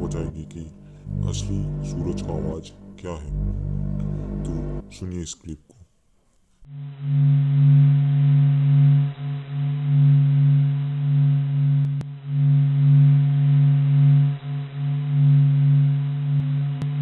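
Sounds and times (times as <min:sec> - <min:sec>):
low pulsing hum: 0:00.0 - 0:05.2, 0:06.6 - 0:17.0.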